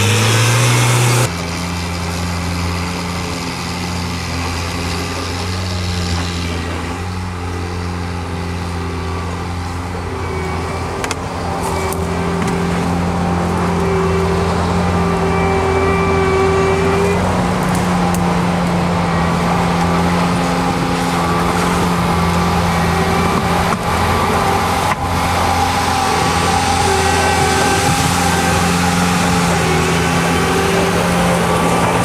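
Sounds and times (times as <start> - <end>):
tracked vehicle engine running: 0.0 - 32.0.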